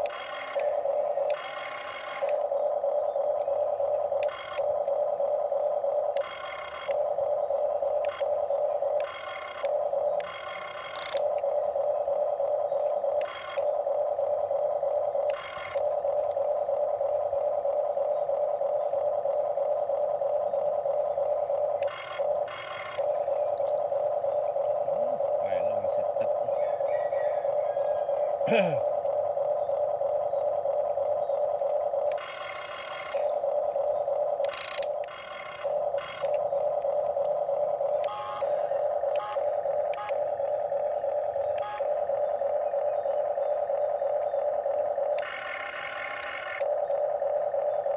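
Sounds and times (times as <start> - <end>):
toy excavator motors whirring: 0.0 - 26.6, 27.4 - 47.9
buzzy motor sound: 0.0 - 47.9.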